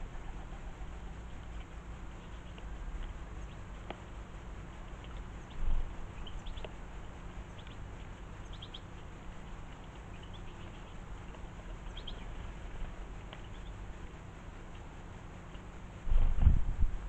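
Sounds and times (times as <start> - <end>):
small birds chirping: 0.0 - 16.3
steady background noise: 0.0 - 17.0.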